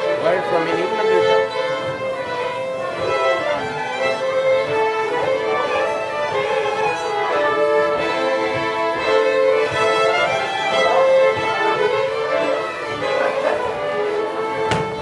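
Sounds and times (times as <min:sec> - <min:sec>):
fiddles playing dance tune: 0:00.0 - 0:15.0.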